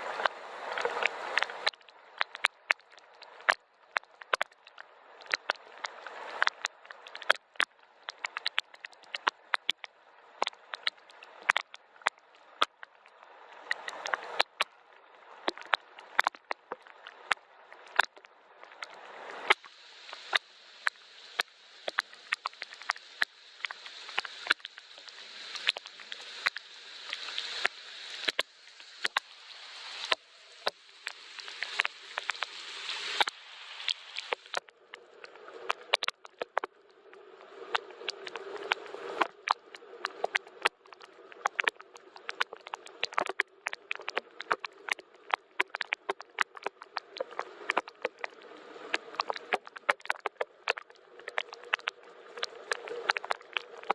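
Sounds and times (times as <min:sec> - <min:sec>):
raindrops ticking: 0:00.0 - 0:53.9
soft hiss of rainfall: 0:00.0 - 0:53.9.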